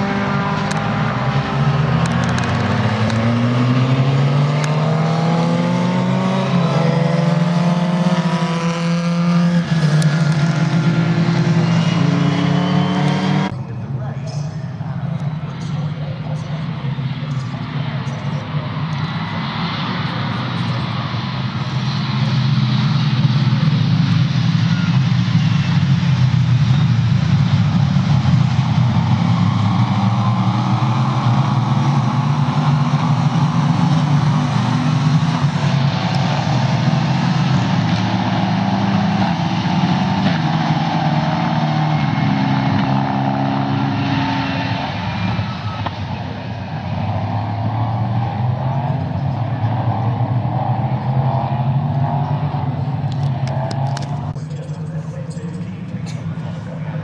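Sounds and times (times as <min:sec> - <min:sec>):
racing car engines at high revs: 0:00.0 - 0:57.0.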